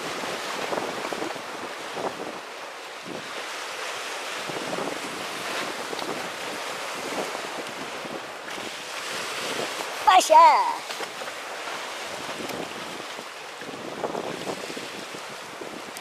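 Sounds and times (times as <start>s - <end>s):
wind blowing on microphone: 0.0s - 10.8s, 12.0s - 16.0s
rough sea surf washing: 0.0s - 16.0s.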